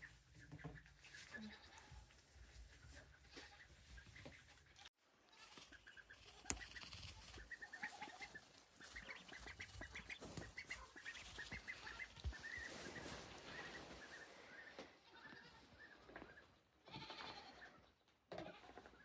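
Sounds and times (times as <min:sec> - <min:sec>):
ducklings peeping: 0:00.0 - 0:16.7.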